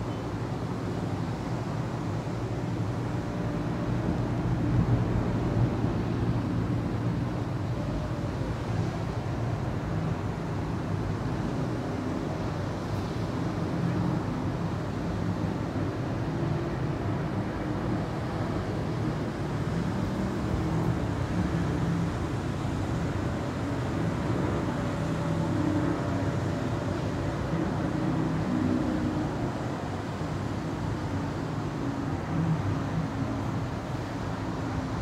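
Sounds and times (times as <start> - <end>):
city traffic rumble: 0.0 - 35.0.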